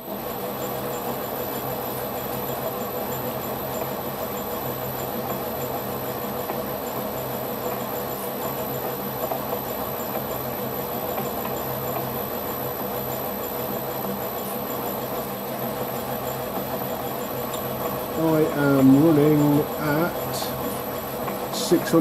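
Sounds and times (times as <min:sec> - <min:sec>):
metal lathe humming: 0:00.0 - 0:22.0.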